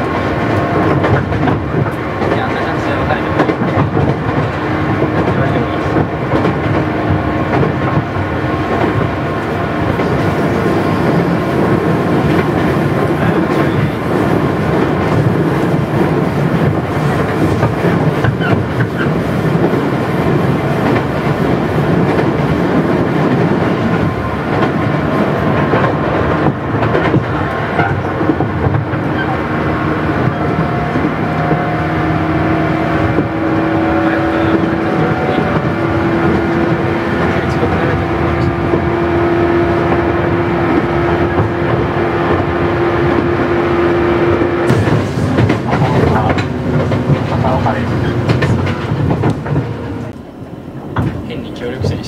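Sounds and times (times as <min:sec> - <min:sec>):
clacks over rail joints: 0:00.0 - 0:43.4, 0:44.2 - 0:52.0
train wheels rumbling: 0:00.0 - 0:52.0.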